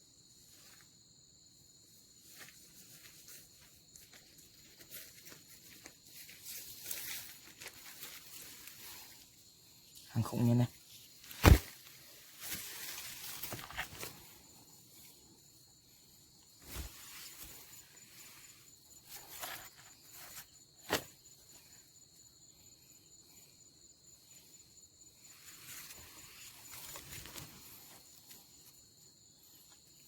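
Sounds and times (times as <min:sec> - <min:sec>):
rustles: 0:02.2 - 0:21.9, 0:24.2 - 0:30.0.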